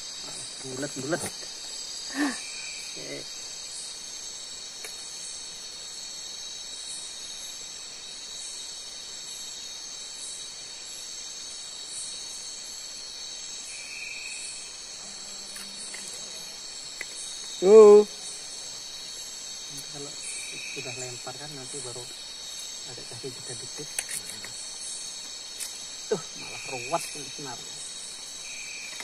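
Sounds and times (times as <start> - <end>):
high insect pulse: 0.0 - 29.0
night insects chorus: 0.0 - 29.0.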